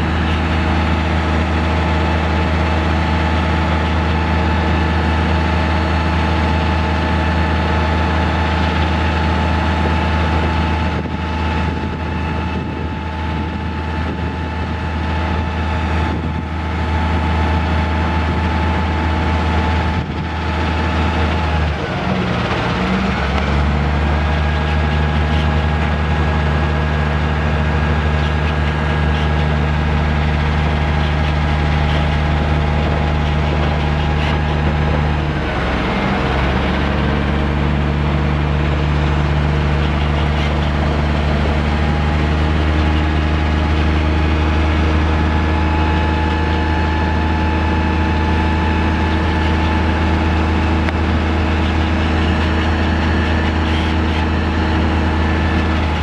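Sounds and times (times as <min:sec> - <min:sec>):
diesel engine running: 0:00.0 - 0:56.0
high hydraulic whine: 0:00.0 - 0:56.0.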